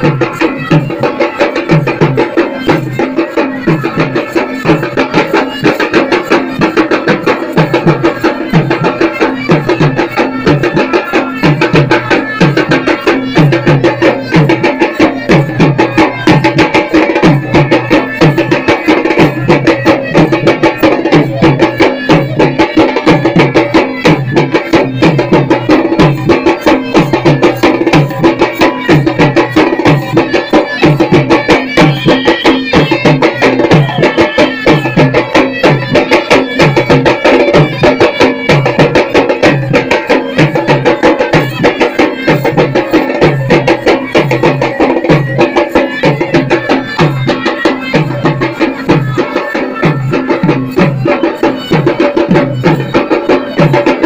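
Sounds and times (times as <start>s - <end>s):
drums beaten fast with sticks: 0.0s - 54.0s
folk band playing: 0.0s - 54.0s.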